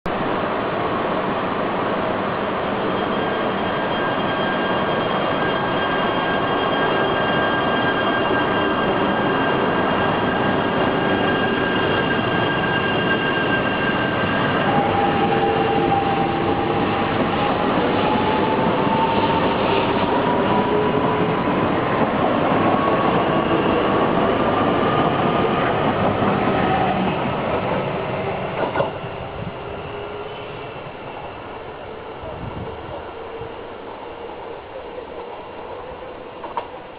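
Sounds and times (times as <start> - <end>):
train running noise: 0.1 - 36.9.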